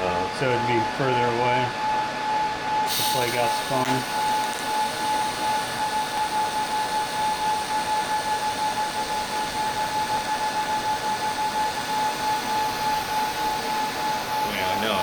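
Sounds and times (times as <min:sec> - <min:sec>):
welding hiss and hum: 0:02.8 - 0:15.0.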